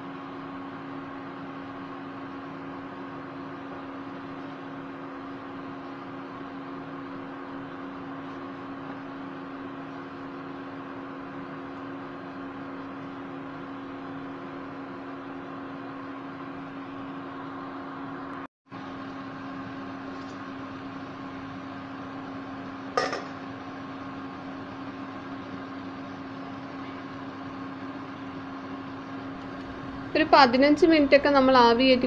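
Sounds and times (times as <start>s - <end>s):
cooktop fan whir: 0.0s - 32.0s
electrical hum: 0.0s - 32.0s.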